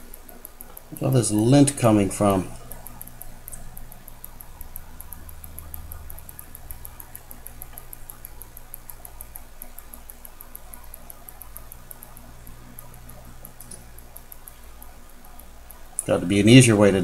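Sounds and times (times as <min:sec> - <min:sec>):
low hum: 0:00.0 - 0:16.9
fast even ticking: 0:00.0 - 0:17.0.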